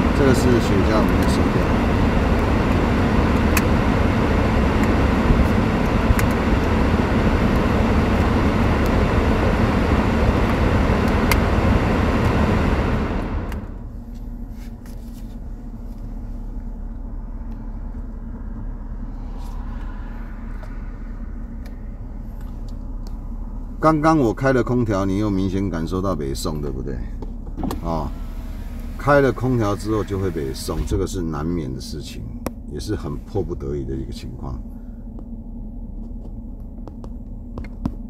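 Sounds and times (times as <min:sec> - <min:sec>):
air conditioning rushing: 0:00.0 - 0:38.0
road and engine rumble: 0:00.0 - 0:38.0.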